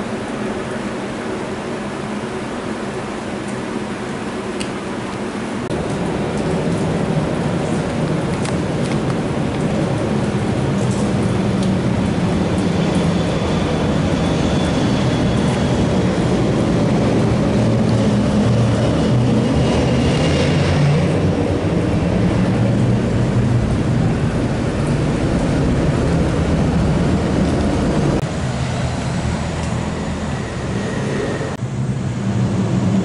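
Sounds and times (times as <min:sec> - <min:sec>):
faint high engine whine: 0:00.0 - 0:33.0
jet engines rumbling: 0:00.0 - 0:33.0.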